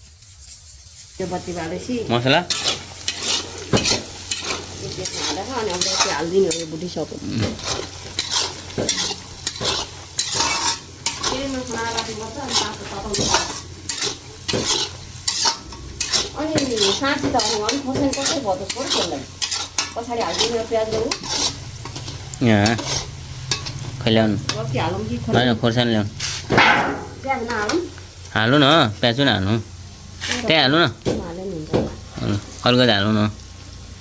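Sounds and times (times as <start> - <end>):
metal spoon scraping a pan: 0.0 - 28.2, 30.1 - 30.6
meat sizzling in a pan: 0.0 - 34.0.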